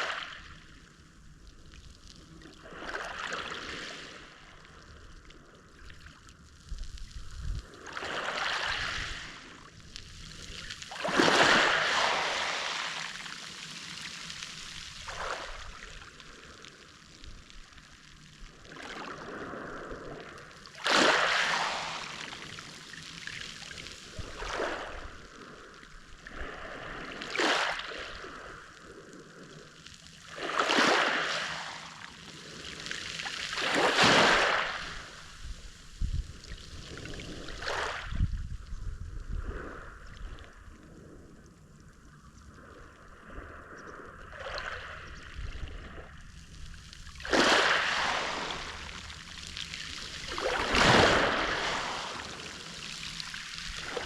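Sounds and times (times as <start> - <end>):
small waves washing on shore: 0.0 - 54.0.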